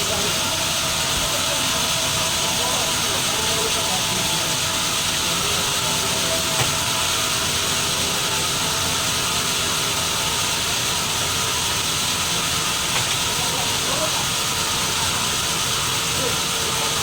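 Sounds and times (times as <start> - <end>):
sawmill saw running: 0.0 - 17.0.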